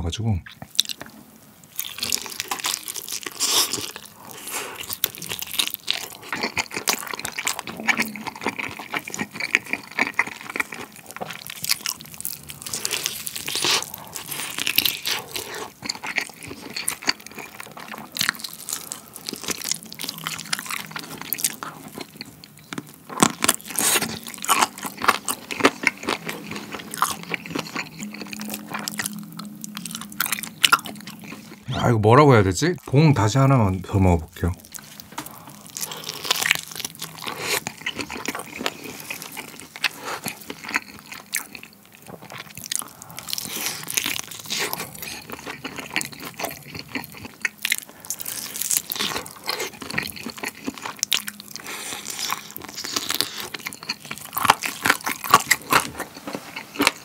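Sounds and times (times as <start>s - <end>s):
chewing: 0.5s - 31.7s, 34.5s - 57.0s
crunching fried chicken: 0.6s - 31.7s, 34.4s - 57.0s.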